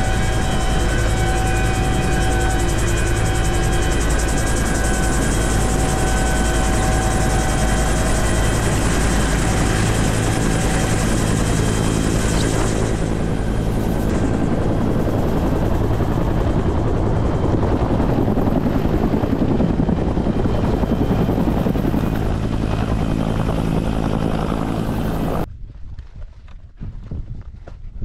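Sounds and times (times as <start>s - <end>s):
helicopter rotor drone: 0.0s - 25.5s.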